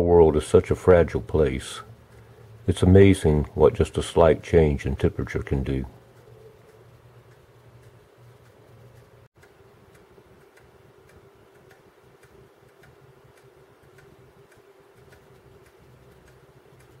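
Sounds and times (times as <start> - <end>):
steady low hum: 0.0 - 17.0
faint regular ticking: 0.2 - 17.0.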